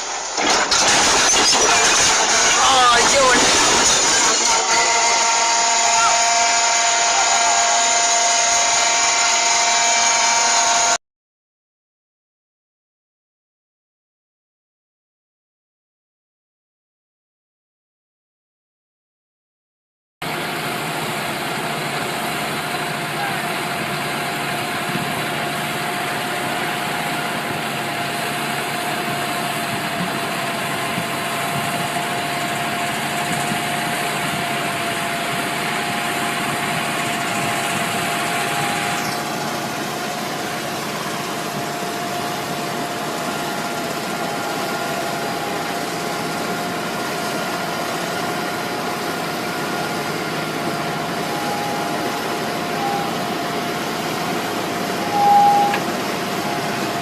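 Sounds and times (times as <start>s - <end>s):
machine engine idling: 0.0s - 10.3s, 20.2s - 57.0s.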